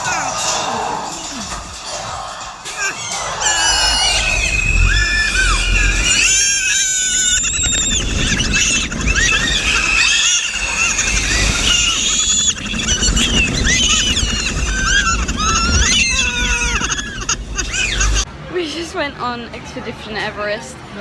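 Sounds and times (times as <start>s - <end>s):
chorus of birds chirping: 0.0s - 18.3s
low rumble: 1.0s - 18.3s.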